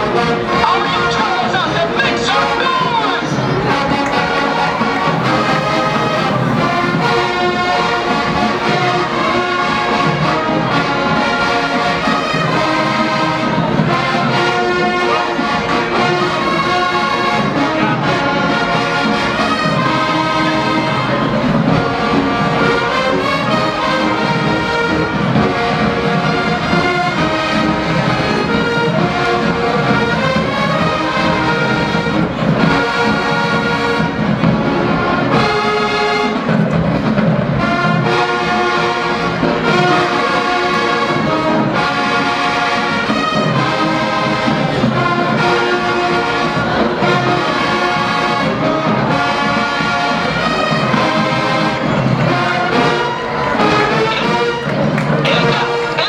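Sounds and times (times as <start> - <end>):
marching band playing brass tune: 0.0 - 56.0.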